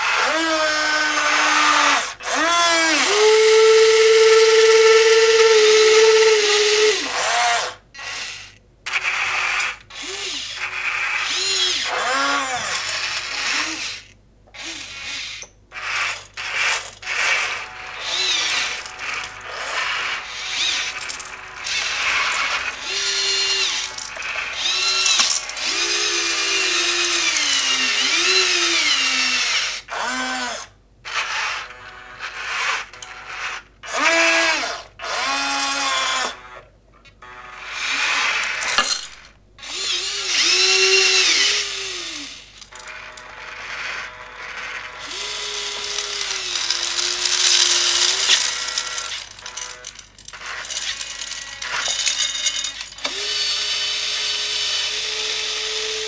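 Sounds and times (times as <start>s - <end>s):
electric motors whining: 0.0s - 36.6s, 37.2s - 56.0s.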